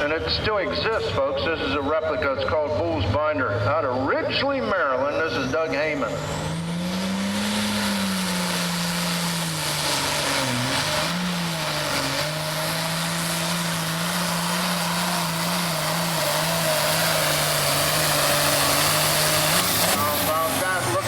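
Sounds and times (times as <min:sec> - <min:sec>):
tractor engine revving under load: 0:00.0 - 0:21.0.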